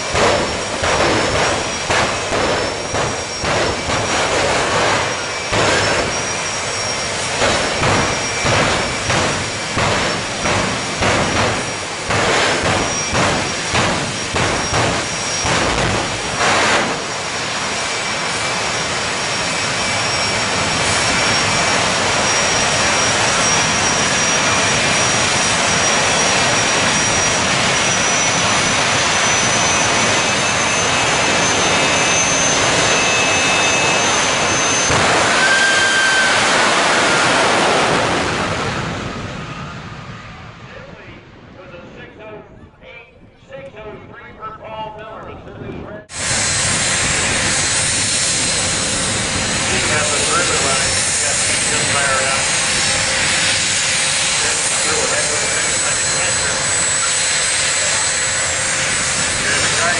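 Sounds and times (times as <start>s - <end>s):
high whine: 0.0s - 42.6s, 43.6s - 59.9s
jet engines roaring: 0.0s - 59.9s.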